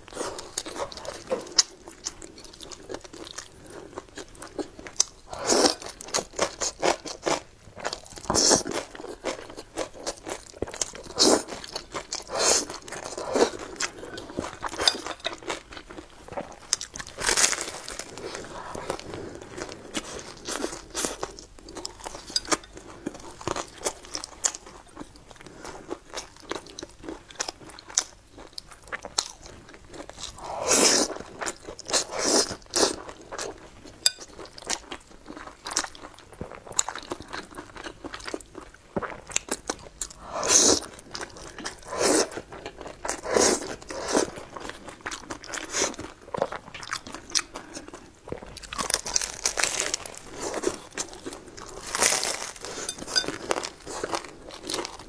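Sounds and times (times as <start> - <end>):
crunching and chewing flatbread: 0.0 - 55.0.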